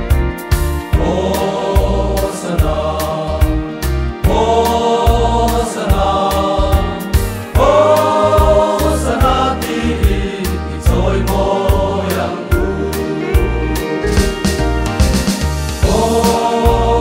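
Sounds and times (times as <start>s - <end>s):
backing track drums and bass: 0.0s - 17.0s
men singing in harmony: 0.9s - 14.6s, 15.8s - 17.0s.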